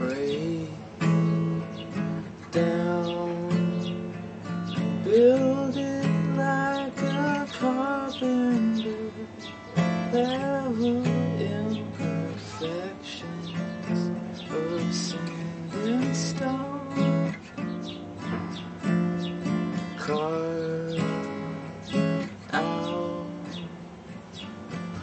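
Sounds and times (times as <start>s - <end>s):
man singing: 0.0s - 1.4s, 2.3s - 17.4s, 19.8s - 23.9s
acoustic guitar strumming: 0.0s - 25.0s.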